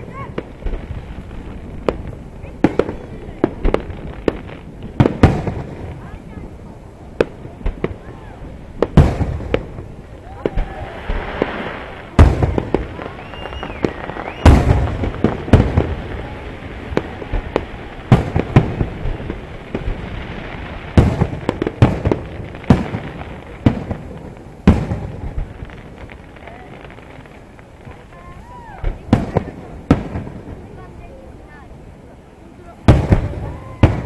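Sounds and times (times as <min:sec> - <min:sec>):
firework pops and crackles: 0:00.0 - 0:31.7, 0:32.6 - 0:34.0
firework shells booming: 0:00.2 - 0:06.2, 0:07.1 - 0:30.8, 0:32.8 - 0:34.0.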